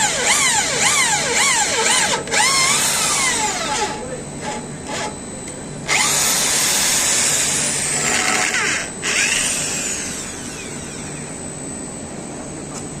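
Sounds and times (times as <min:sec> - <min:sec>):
power drill drilling into metal: 0:00.0 - 0:05.1, 0:05.9 - 0:11.3.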